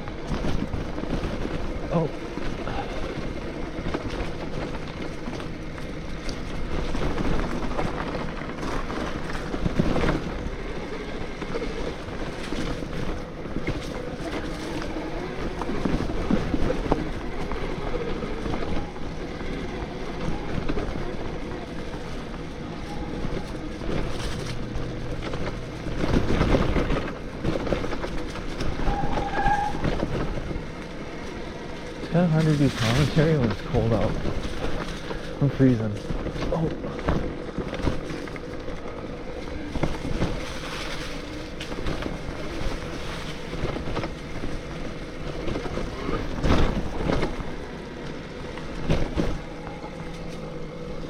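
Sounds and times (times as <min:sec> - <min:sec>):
tyres on dirt trail: 0:00.0 - 0:51.0.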